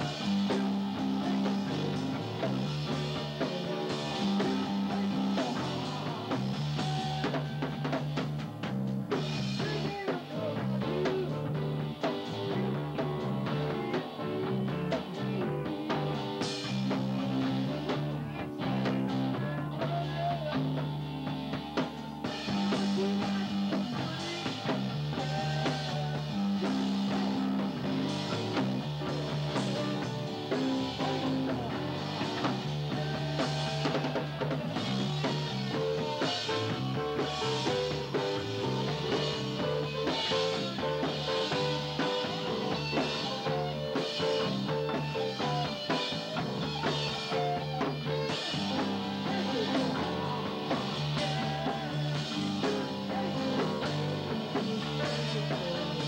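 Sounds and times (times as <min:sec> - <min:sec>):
bass line: 0:00.0 - 0:56.0
drum kit with cymbals: 0:00.0 - 0:56.0
electric guitar: 0:00.0 - 0:56.0.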